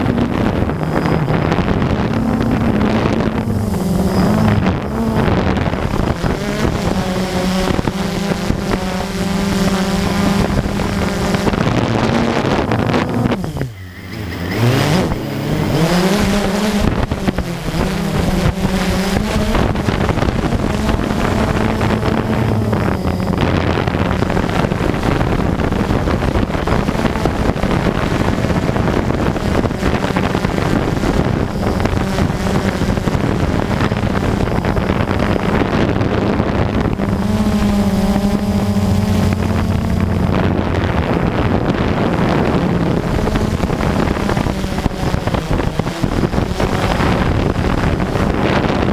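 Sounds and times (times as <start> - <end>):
drone motors whining: 0.0 - 48.9
wind noise: 0.0 - 48.9.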